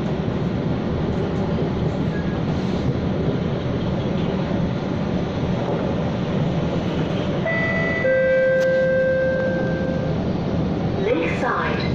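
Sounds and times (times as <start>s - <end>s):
train rumble: 0.0s - 11.9s.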